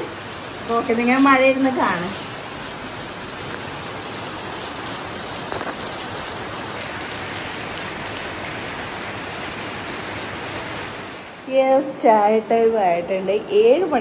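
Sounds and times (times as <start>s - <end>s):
heavy rain pouring: 0.0s - 11.6s.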